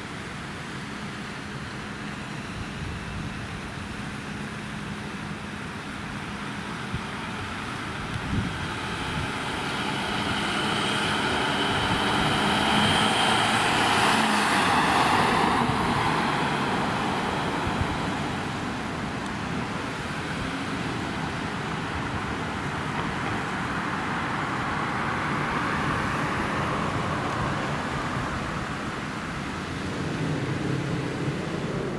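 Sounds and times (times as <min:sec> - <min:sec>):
road traffic noise: 0:00.0 - 0:31.9
van engine and tyre noise: 0:00.0 - 0:31.9.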